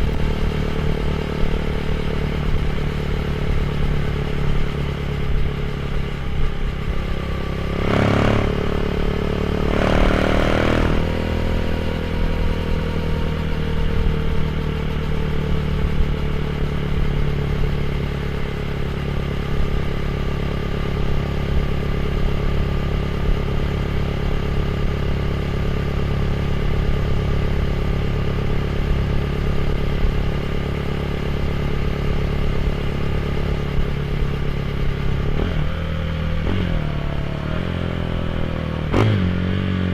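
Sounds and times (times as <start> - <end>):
motorcycle idling: 0.0 - 39.9.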